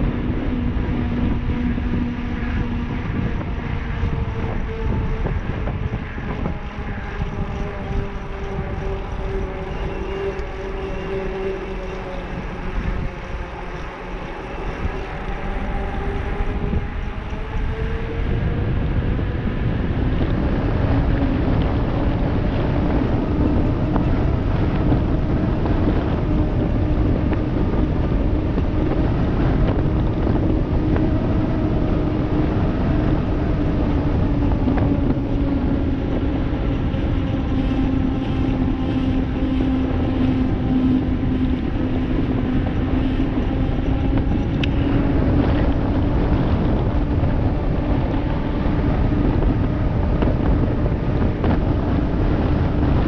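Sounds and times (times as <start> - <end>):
bike tyres humming on asphalt: 0.0 - 53.0
wind rushing over microphone: 0.0 - 53.0.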